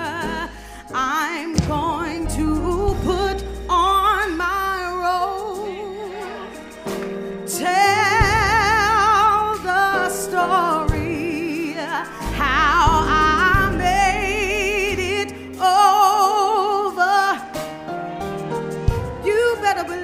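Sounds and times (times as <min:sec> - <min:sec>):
gospel singer with vibrato: 0:00.0 - 0:17.9, 0:18.9 - 0:20.0
sustained accompaniment with bass: 0:00.0 - 0:20.0.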